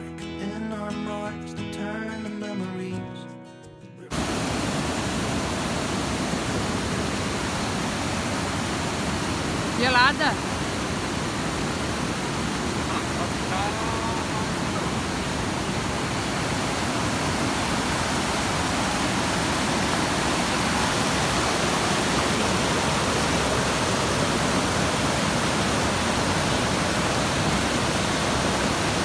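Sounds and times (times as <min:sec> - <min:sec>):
waterfall rushing: 0:04.1 - 0:29.0.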